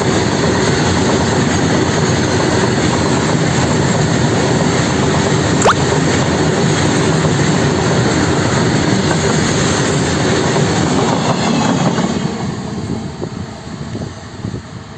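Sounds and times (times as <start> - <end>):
train wheels rumbling on rails: 0.0 - 5.0, 7.1 - 14.9.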